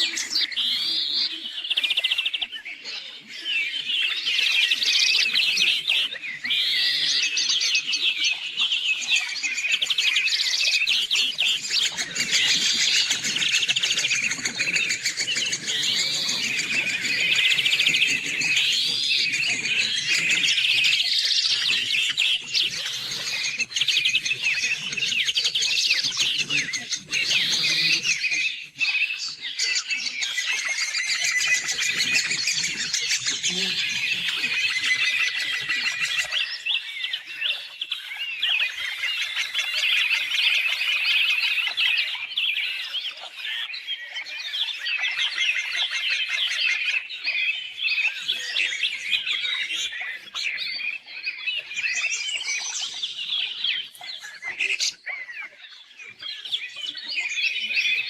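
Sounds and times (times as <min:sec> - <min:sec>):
songbird singing trills: 0:00.0 - 0:58.0.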